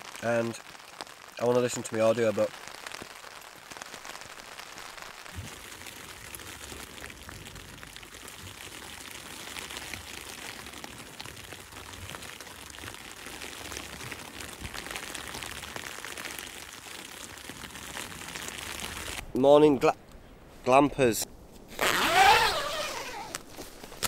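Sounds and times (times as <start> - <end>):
rain pattering on a tent: 0.0 - 24.0.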